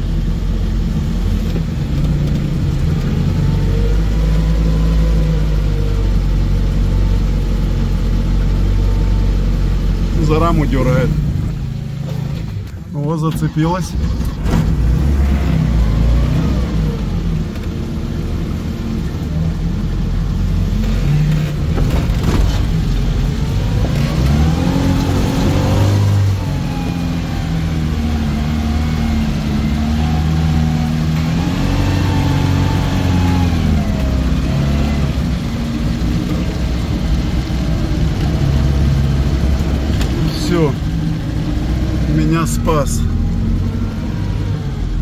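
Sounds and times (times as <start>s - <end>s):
engine revving under load: 0.0s - 12.7s, 13.3s - 45.0s.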